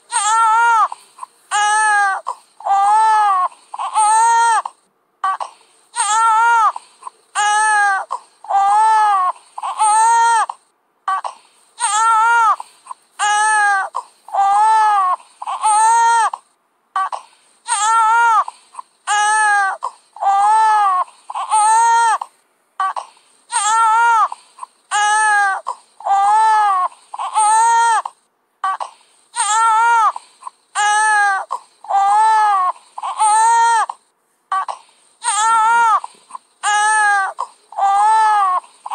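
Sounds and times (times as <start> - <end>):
baby crying: 0.1 - 38.9.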